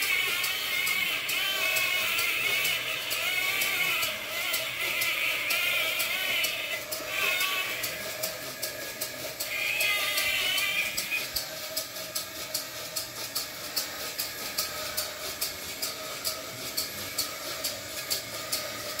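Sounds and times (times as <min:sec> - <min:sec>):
small electric motor hum: 0:00.0 - 0:19.0
toy mechanism clicking: 0:00.0 - 0:19.0.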